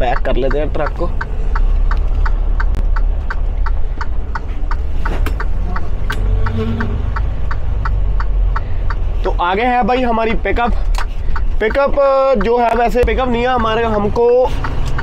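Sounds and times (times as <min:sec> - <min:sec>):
diesel truck engine rumbling: 0:00.0 - 0:15.0
steady clicking: 0:00.0 - 0:15.0.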